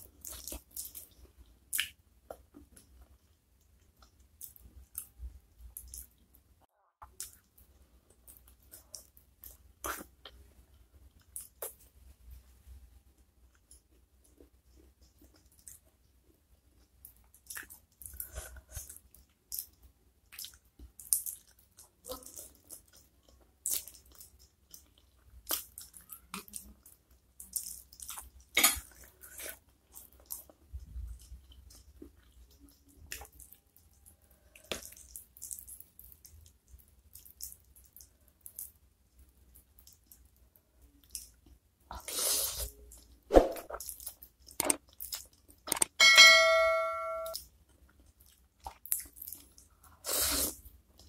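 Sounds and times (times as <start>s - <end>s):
person eating and chewing: 0.0s - 6.2s, 7.0s - 12.0s, 13.4s - 16.0s, 16.7s - 46.0s, 47.3s - 51.0s.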